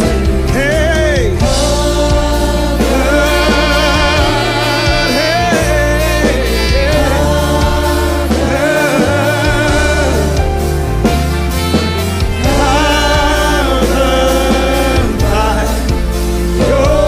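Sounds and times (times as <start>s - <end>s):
band with bass keyboard and drums: 0.0s - 17.0s
gospel singers holding long notes: 0.0s - 17.0s.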